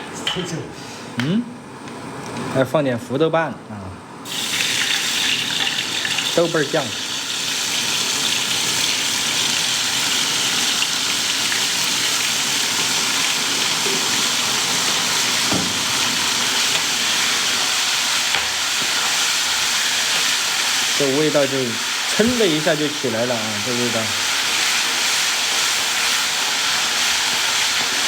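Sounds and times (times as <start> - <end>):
paste sizzling in hot oil: 4.3 - 28.0.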